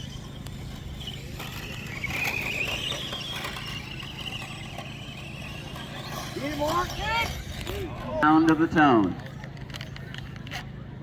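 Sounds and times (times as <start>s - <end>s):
toy truck electric motors whining: 0.0s - 10.7s.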